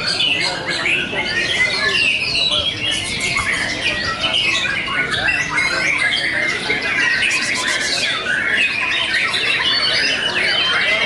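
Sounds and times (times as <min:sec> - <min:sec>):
birds singing whistles and chatter: 0:00.0 - 0:11.0.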